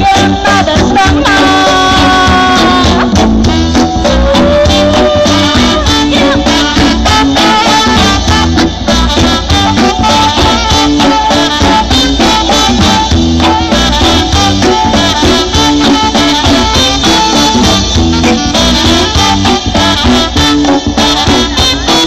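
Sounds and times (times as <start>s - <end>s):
reggae band playing instrumental: 0.0s - 22.0s.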